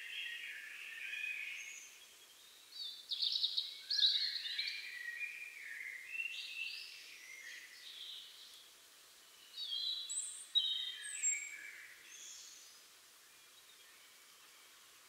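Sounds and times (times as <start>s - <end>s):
robin singing: 0.0s - 8.7s, 9.3s - 14.7s.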